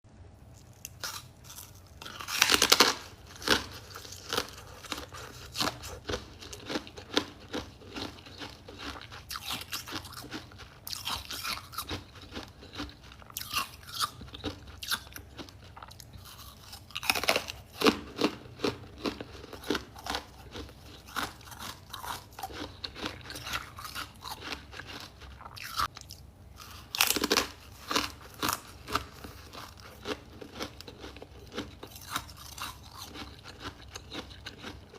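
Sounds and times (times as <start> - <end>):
person crunching ice: 0.9 - 26.0, 26.6 - 34.9.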